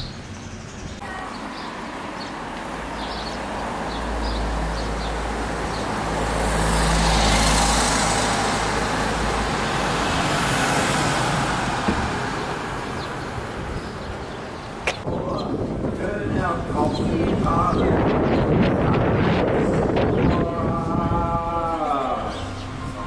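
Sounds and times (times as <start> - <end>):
vehicle passing: 1.3 - 14.8, 18.0 - 23.0.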